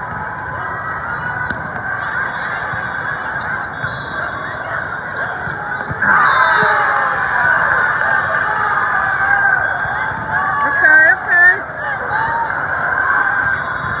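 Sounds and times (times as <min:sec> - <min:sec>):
crowd cheering: 0:00.0 - 0:14.0
crowd voices overlapping: 0:00.0 - 0:14.0.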